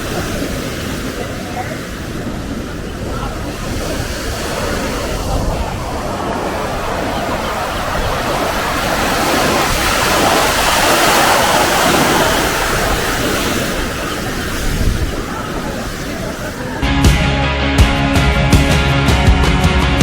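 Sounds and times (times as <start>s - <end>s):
surf breaking on beach: 0.0s - 17.2s.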